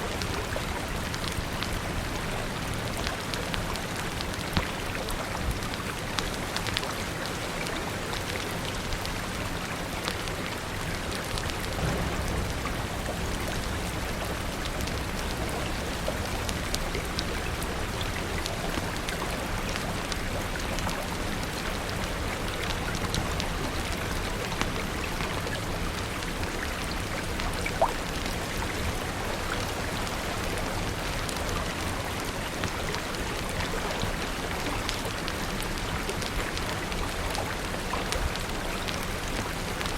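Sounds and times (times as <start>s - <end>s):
heavy rain: 0.0s - 39.9s
wood fire crackling: 0.0s - 39.9s.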